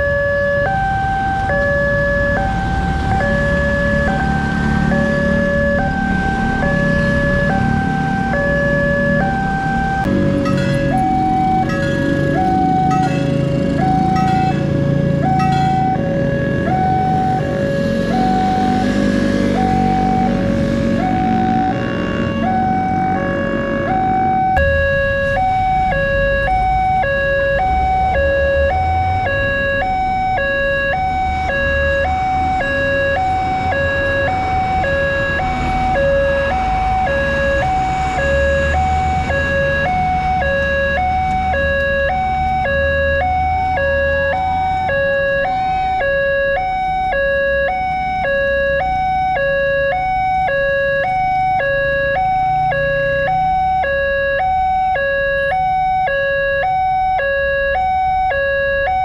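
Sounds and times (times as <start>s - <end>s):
level crossing alarm ding-dong: 0.0s - 16.1s, 24.4s - 59.0s
road traffic engines rumbling: 0.0s - 59.0s.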